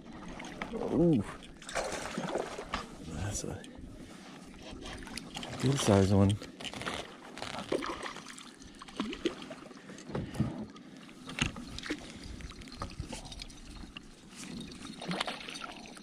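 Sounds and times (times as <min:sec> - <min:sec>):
water sloshing around a kayak: 0:00.0 - 0:16.0.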